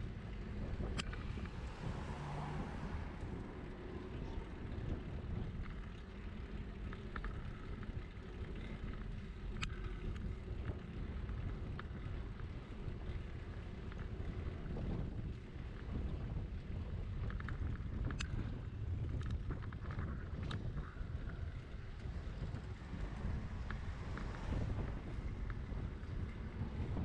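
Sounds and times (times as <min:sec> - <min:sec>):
bicycle clicks: 0:00.0 - 0:27.0
road and tyre rumble: 0:00.0 - 0:27.0
wind buffeting microphone: 0:00.0 - 0:27.0.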